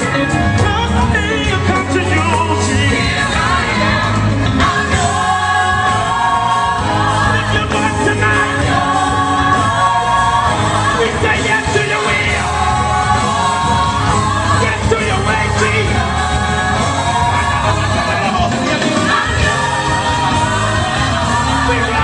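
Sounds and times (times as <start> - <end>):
band accompaniment: 0.0 - 22.0
gospel choir singing: 0.0 - 22.0.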